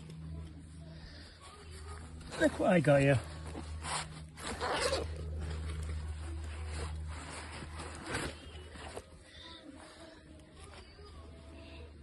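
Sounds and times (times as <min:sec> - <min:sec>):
low steady hum: 0:00.0 - 0:12.0
backpack fabric rustling: 0:01.3 - 0:11.3.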